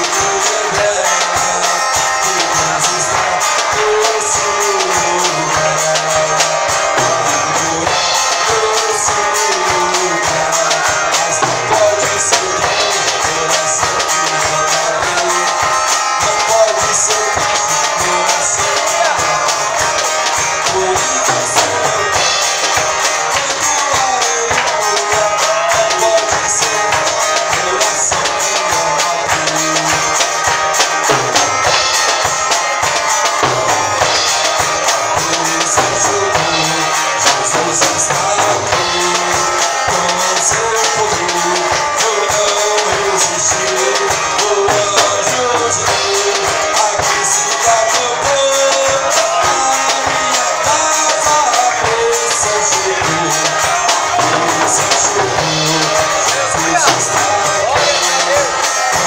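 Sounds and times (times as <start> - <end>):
acoustic guitar strumming: 0.0 - 59.0
jingling percussion: 0.0 - 59.0
man singing gospel song: 0.0 - 59.0.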